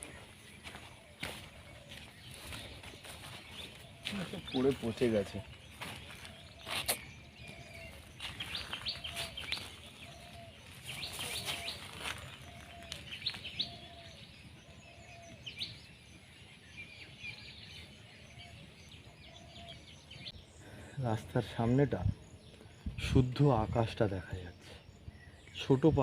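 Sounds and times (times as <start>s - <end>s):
birds chirping rapidly: 0.0s - 26.0s.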